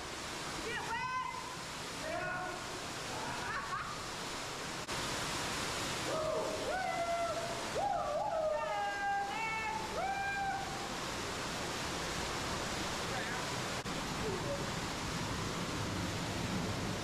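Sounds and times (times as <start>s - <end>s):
underground waterfall rushing: 0.0s - 17.0s.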